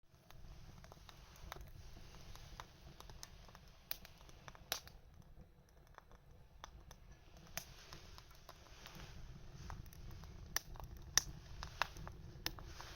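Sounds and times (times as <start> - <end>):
wood fire crackling: 0.1 - 12.9.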